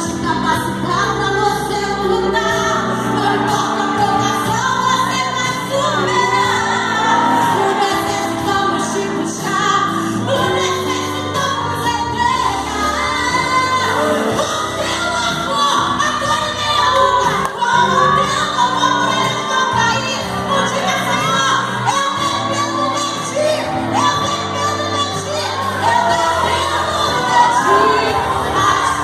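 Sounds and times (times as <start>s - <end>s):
voices singing worship music: 0.0s - 29.0s.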